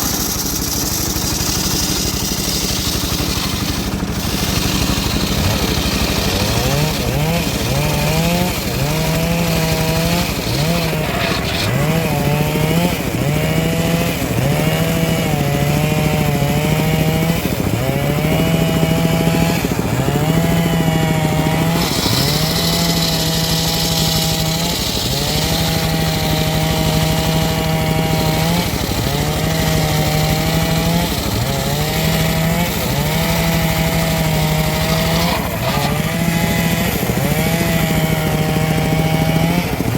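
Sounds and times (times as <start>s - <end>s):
circular sawmill cutting wood: 0.0s - 39.9s.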